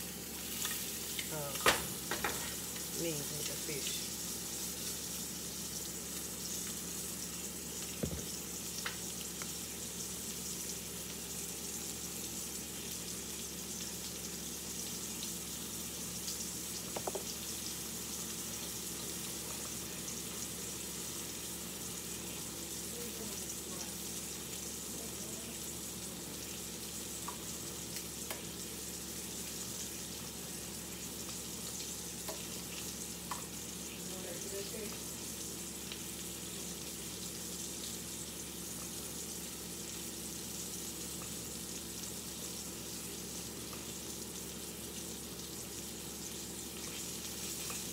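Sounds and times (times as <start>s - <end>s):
fish sizzling in oil: 0.0s - 47.9s.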